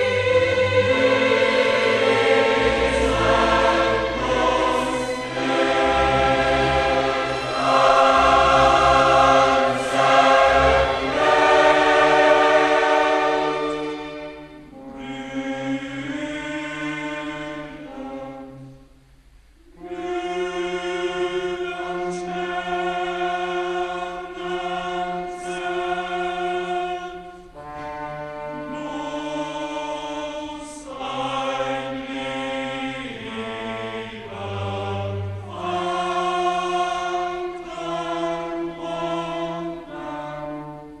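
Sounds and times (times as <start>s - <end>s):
choir singing sustained chords: 0.0s - 41.0s.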